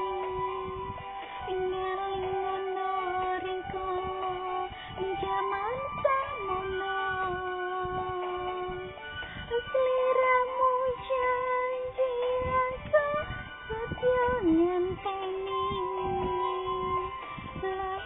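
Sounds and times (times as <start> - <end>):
person singing a song: 0.0 - 18.0.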